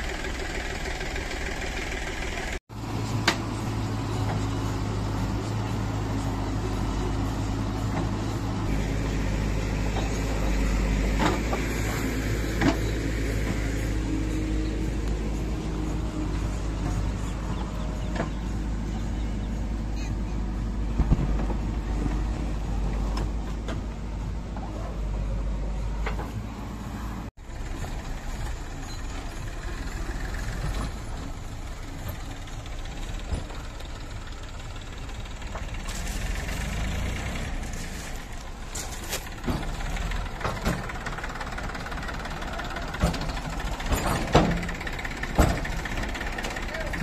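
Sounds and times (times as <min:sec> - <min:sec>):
diesel machinery running: 0:00.0 - 0:47.0.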